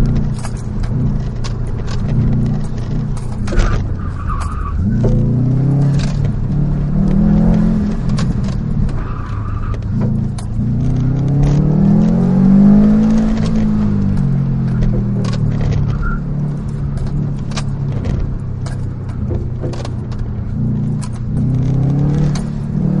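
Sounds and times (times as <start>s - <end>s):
car engine revving: 0.0s - 23.0s
knocks and rattles: 0.0s - 23.0s
tyres squealing: 0.0s - 23.0s.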